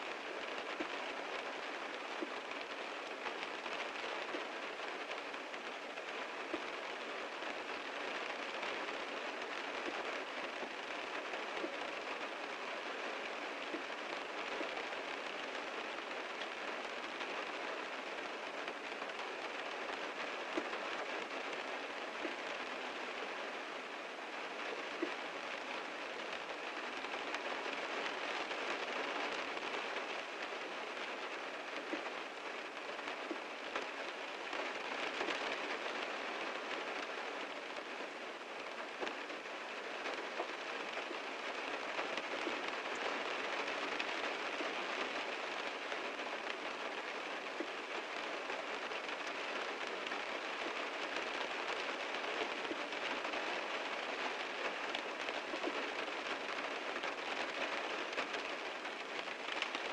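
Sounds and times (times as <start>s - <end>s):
heavy rain hiss: 0.0s - 59.9s
raindrops ticking on car: 0.1s - 59.9s.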